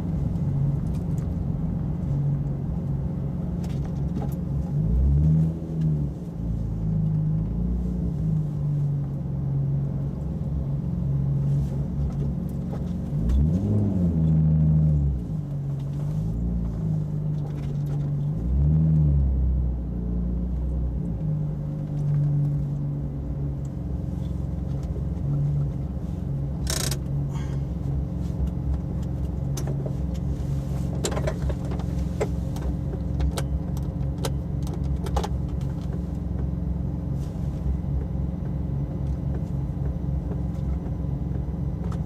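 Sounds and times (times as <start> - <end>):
car engine idling: 0.0 - 5.4, 6.0 - 13.6, 19.8 - 42.0.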